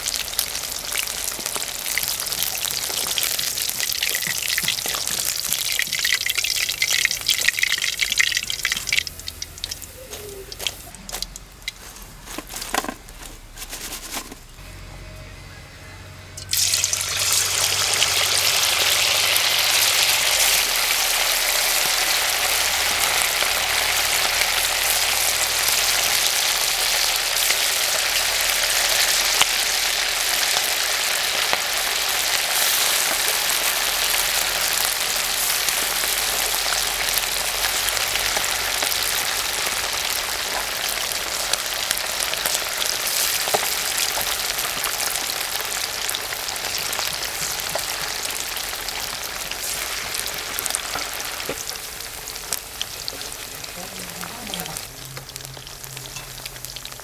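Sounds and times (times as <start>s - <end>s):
chicken sizzling in hot oil: 0.0s - 14.6s, 16.4s - 57.0s.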